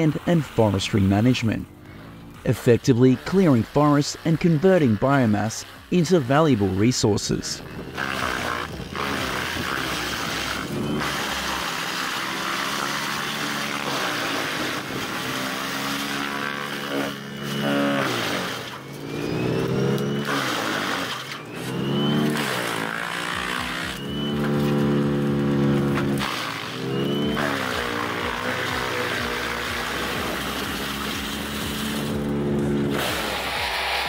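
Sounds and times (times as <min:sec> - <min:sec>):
tractor engine: 0:00.0 - 0:34.0
wood chipper chipping wood: 0:00.0 - 0:34.0.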